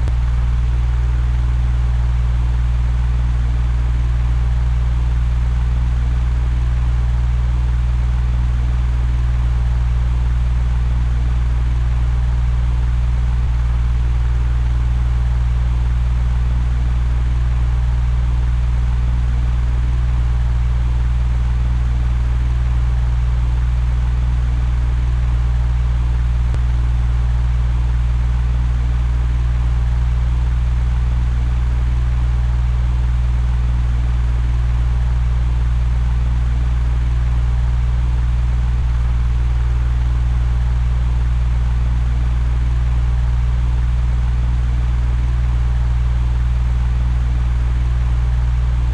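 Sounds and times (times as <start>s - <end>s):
electric fan motor hum: 0.0s - 48.9s.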